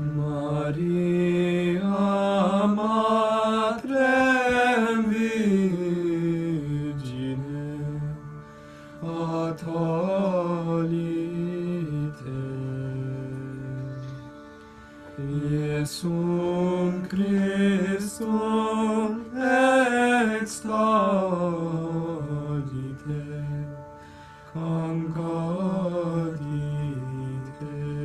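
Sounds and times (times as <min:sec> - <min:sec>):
person chanting: 0:00.0 - 0:14.5, 0:15.1 - 0:28.0.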